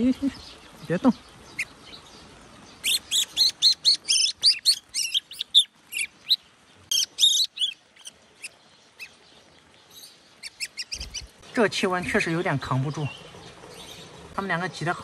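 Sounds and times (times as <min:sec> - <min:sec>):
fledgling bird chirping: 0:00.0 - 0:14.9.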